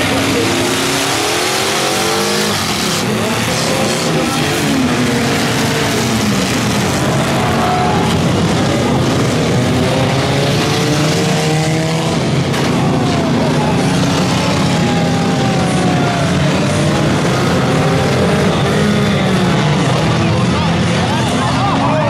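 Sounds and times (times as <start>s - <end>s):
many car engines revving: 0.0s - 22.0s.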